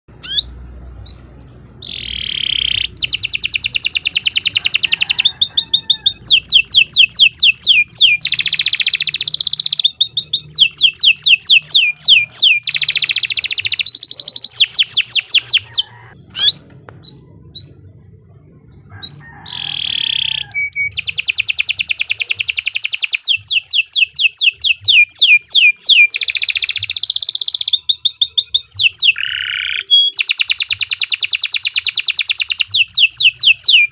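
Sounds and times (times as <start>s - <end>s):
canary singing: 0.1s - 33.9s.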